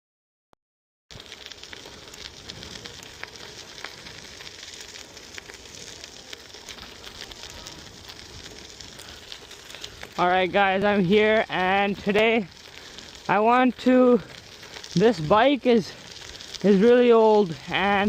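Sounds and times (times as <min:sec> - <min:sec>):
bicycle tyres rolling: 0:01.1 - 0:18.0
small ticks and crackles: 0:01.1 - 0:18.0.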